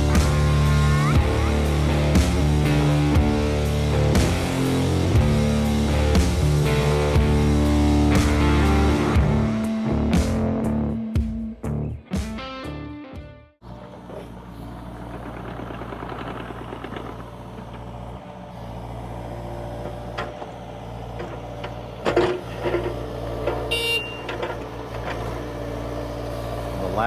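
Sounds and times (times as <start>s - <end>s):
excavator diesel engine running: 0.0s - 11.1s, 13.6s - 27.0s.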